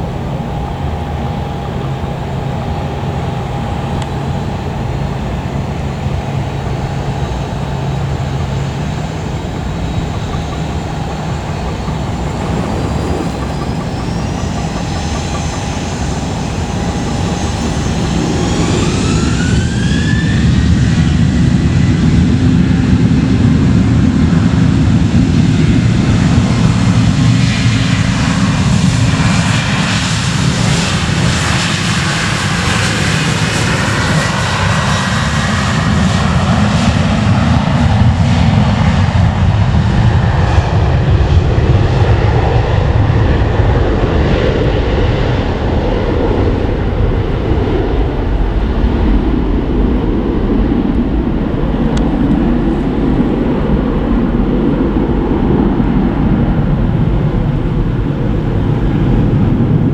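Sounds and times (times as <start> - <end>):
jet engines spooling up: 0.0 - 59.9.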